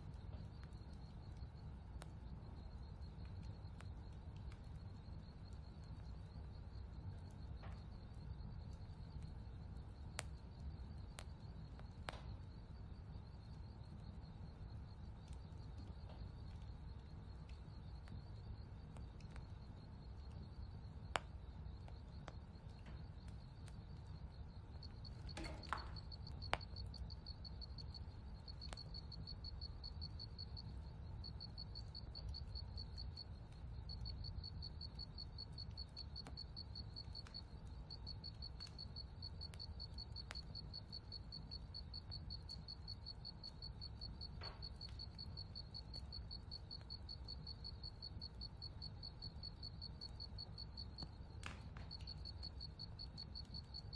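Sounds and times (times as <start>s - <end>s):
cricket chirping trill: 0.0s - 53.9s.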